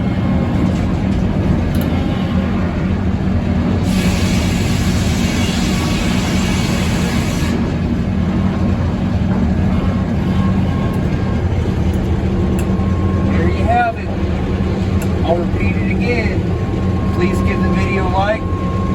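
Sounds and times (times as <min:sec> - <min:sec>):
sawmill machinery humming: 0:00.0 - 0:18.9.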